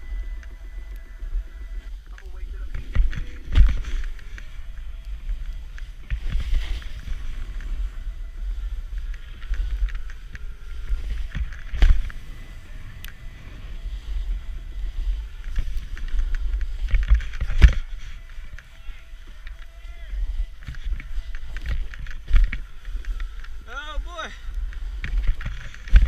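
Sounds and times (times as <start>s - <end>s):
wind rumbling on microphone: 0.0s - 26.0s
snowboard swishing over snow: 2.4s - 26.0s.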